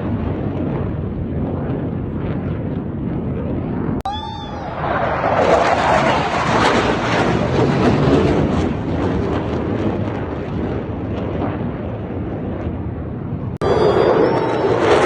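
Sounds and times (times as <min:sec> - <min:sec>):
fighter jet passing over: 0:00.0 - 0:15.0.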